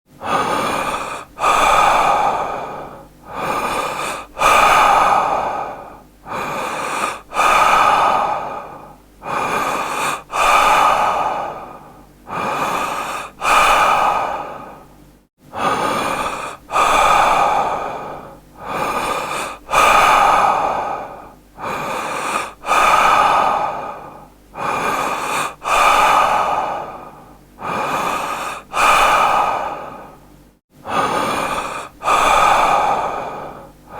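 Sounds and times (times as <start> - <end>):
man breathing deeply: 0.1 - 33.9.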